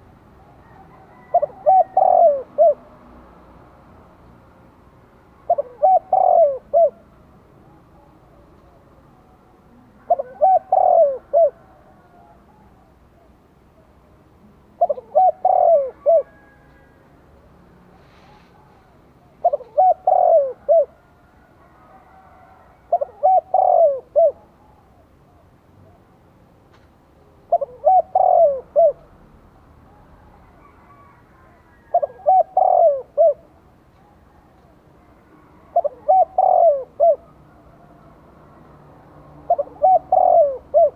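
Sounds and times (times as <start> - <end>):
dove cooing: 0.0 - 3.1, 5.4 - 9.2, 9.9 - 13.4, 14.7 - 17.1, 18.0 - 26.1, 27.4 - 29.2, 29.8 - 38.2, 39.0 - 40.9.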